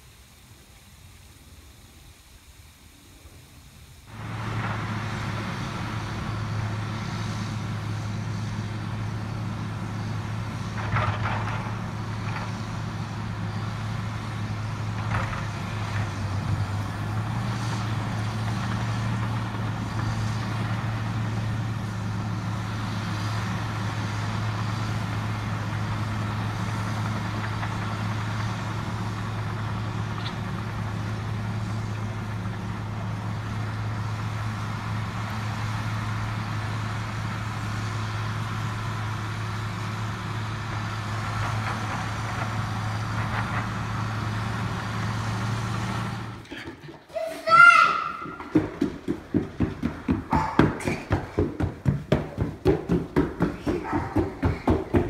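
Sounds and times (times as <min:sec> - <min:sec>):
vehicle engine running: 0:04.1 - 0:47.0, 0:48.2 - 0:55.0.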